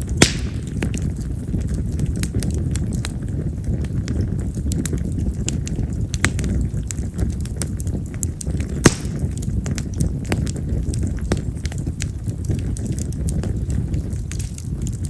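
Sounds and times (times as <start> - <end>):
firewood burning with crackles and pops: 0.0 - 15.0
low rush of flame: 0.0 - 15.0.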